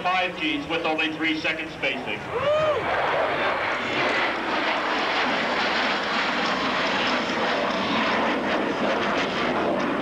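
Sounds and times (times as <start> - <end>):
jet engine noise: 0.0 - 10.0.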